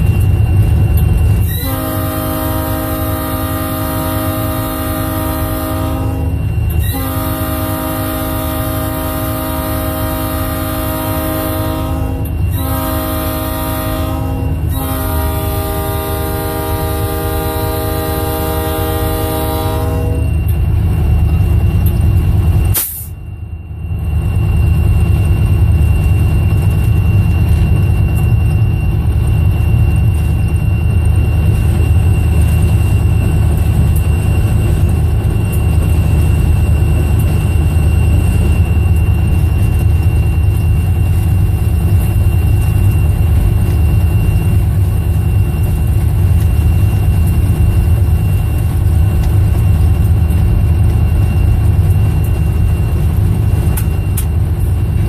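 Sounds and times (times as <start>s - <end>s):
locomotive diesel engine drone: 0.0s - 55.0s
thin high whine: 0.0s - 55.0s
wheels rumbling on rails: 0.0s - 55.0s.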